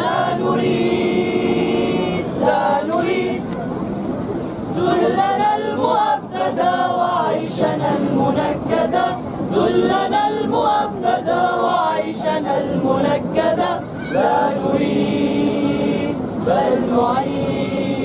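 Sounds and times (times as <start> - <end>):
group singing a cappella: 0.0 - 3.5, 4.7 - 18.0.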